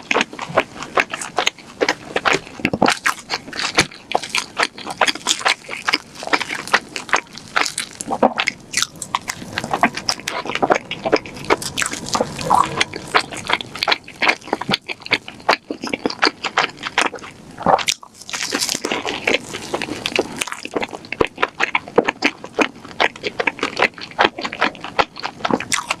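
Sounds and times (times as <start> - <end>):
close-miked chewing: 0.0 - 26.0.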